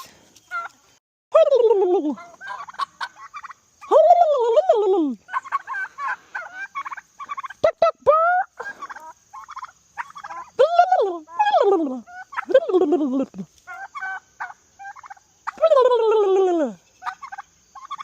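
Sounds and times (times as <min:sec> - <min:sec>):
turkeys gobbling: 0:00.0 - 0:00.8, 0:01.5 - 0:18.0.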